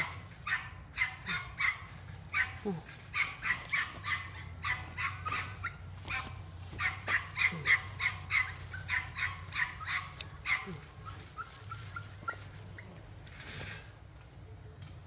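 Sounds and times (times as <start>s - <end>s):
animal making sharp calls: 0.0s - 14.0s.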